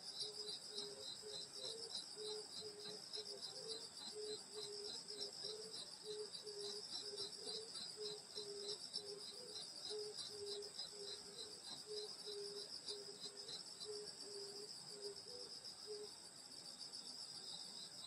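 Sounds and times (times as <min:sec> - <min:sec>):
crickets chirping: 0:00.0 - 0:18.0
insects trilling: 0:00.0 - 0:18.0
low repeating insect note: 0:00.0 - 0:18.0.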